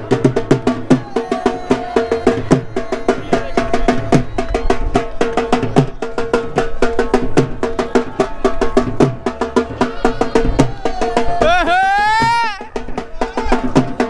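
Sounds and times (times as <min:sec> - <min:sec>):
fast steady drumming: 0:00.0 - 0:14.0.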